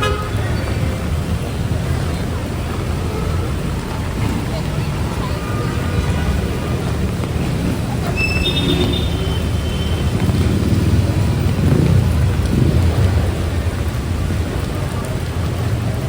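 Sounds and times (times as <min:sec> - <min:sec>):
heavy rain: 0:00.0 - 0:16.0
road traffic rumbling: 0:00.0 - 0:16.0.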